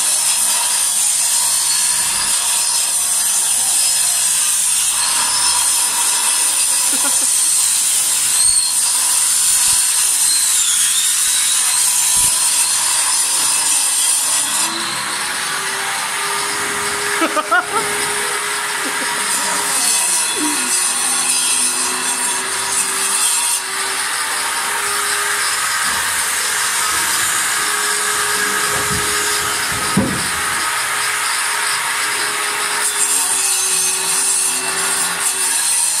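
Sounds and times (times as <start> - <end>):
power tool working wood: 0.0 - 36.0.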